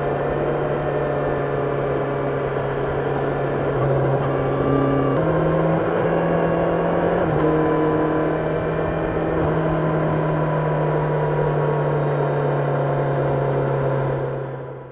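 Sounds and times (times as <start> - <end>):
motorcycle engine while riding: 0.0 - 14.9.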